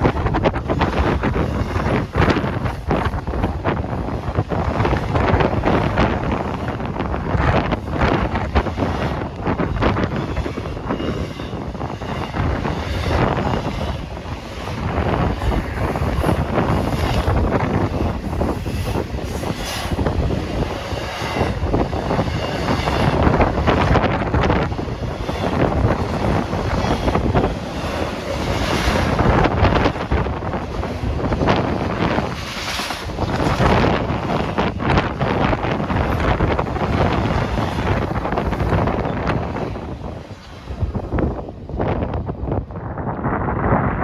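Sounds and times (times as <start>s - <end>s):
freight train rumbling past: 0.0s - 44.0s
wind buffeting microphone: 0.0s - 44.0s.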